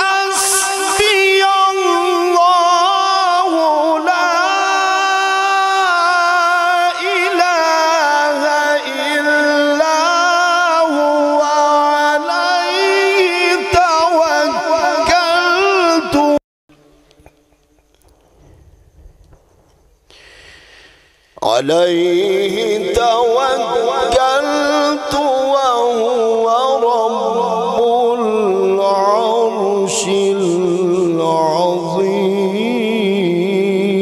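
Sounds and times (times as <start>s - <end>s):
man reciting melodically into microphone: 0.0s - 16.4s, 21.3s - 34.0s.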